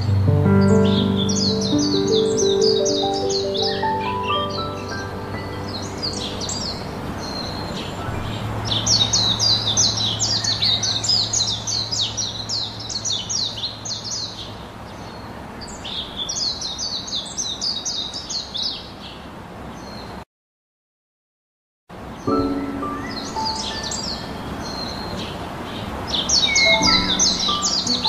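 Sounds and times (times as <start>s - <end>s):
bird chirping: 0.0s - 19.2s, 22.1s - 28.0s.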